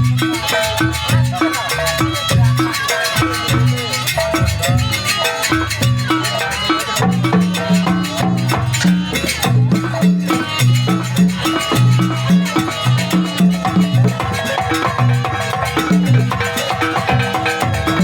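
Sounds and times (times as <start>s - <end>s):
drums beating fast rhythm: 0.0s - 18.0s.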